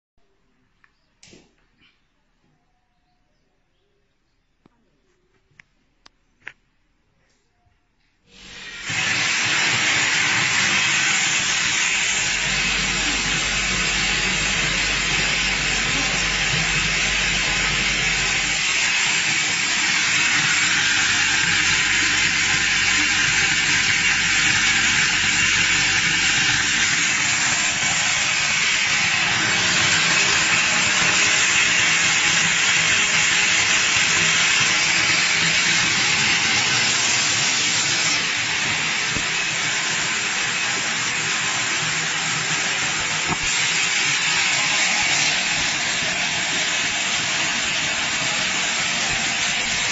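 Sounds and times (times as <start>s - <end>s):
machine hissing: 8.3s - 49.9s.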